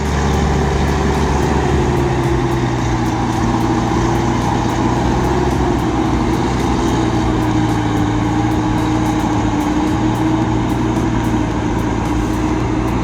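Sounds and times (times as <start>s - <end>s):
truck diesel engine pulling hard: 0.0s - 13.0s.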